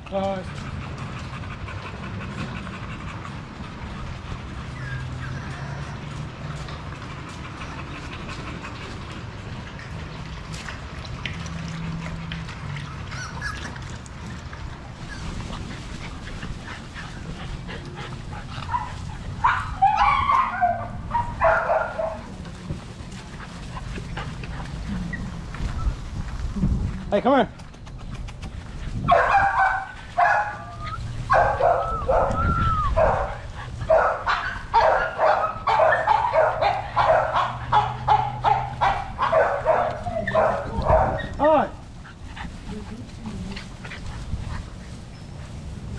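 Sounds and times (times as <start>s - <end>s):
puppies barking and yipping: 0.7s - 26.0s, 27.8s - 45.9s.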